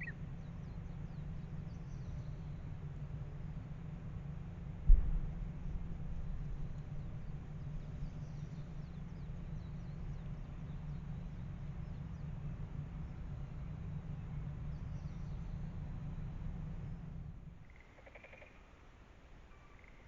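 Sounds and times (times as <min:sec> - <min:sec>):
steady low rumble: 0:00.0 - 0:17.8.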